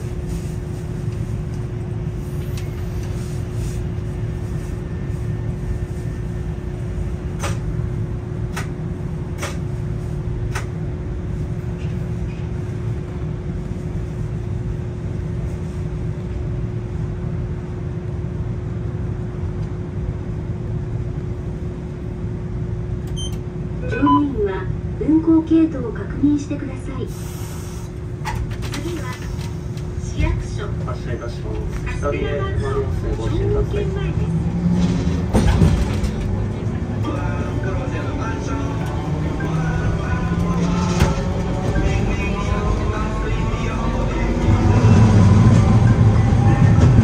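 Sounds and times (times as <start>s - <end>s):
streetcar rumble and hum: 0.0s - 47.0s.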